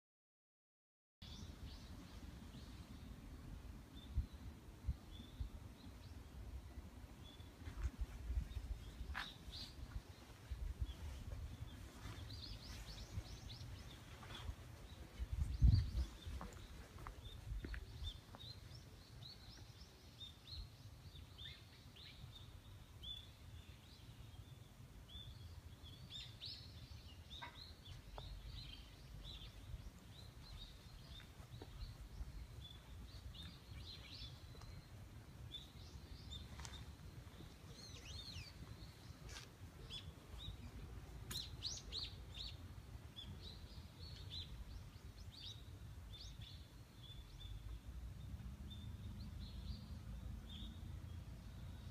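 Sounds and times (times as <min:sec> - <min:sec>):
small birds chirping: 0:01.2 - 0:51.9.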